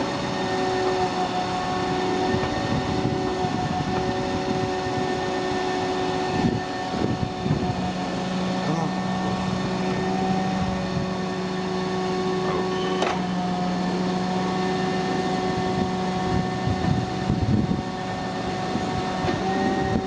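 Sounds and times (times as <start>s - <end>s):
truck engine and vacuum pump: 0.0s - 20.0s
uneven low rumbling: 0.6s - 20.0s.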